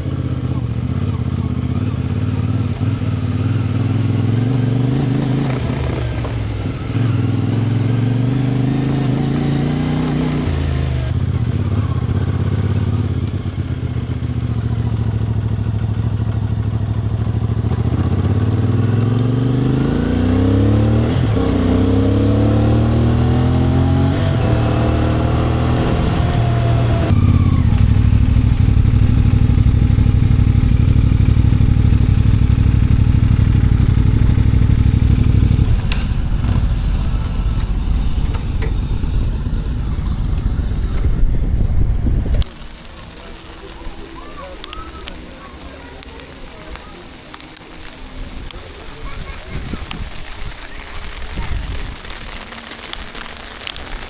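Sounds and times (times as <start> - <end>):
vehicle engine accelerating: 0.0 - 54.0.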